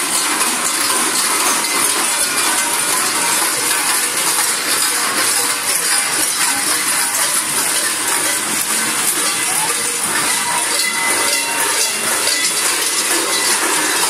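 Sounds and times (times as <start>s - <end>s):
large bells jangling: 0.0s - 14.0s.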